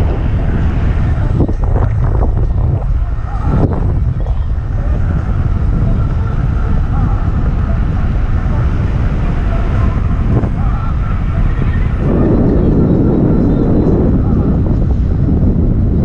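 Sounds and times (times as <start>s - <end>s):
faint steady whine: 0.0s - 16.0s
wind buffeting microphone: 0.0s - 16.0s.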